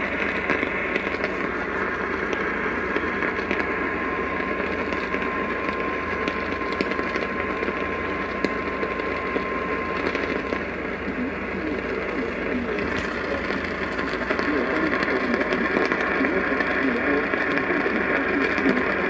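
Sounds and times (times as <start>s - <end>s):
faint steady tone: 0.0s - 19.0s
radio reception hiss: 0.0s - 19.0s
static crackles: 0.0s - 19.0s.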